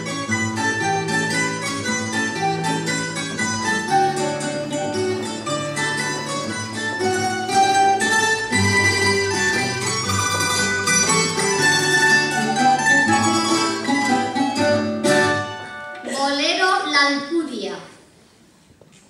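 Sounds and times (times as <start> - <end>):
plucked string folk music: 0.0 - 16.7.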